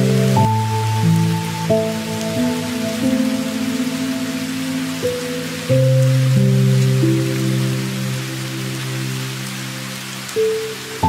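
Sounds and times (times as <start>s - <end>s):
rain falling: 0.0s - 11.0s
soft music of low held notes: 0.0s - 11.0s.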